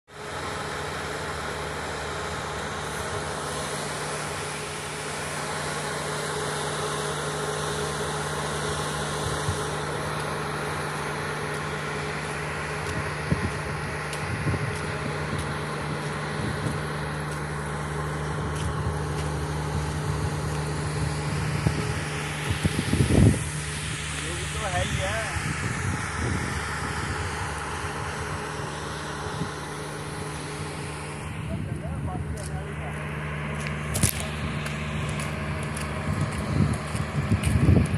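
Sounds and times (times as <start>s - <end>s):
diesel engines droning: 0.1s - 37.9s.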